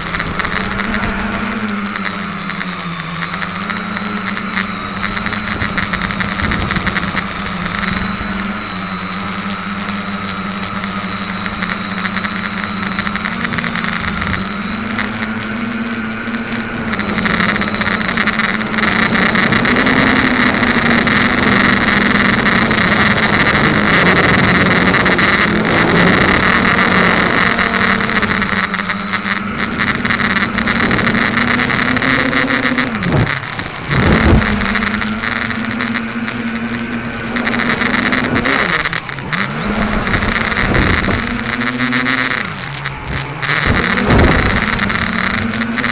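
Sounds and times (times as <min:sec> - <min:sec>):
quadcopter motors and propellers whirring: 0:00.0 - 0:45.9.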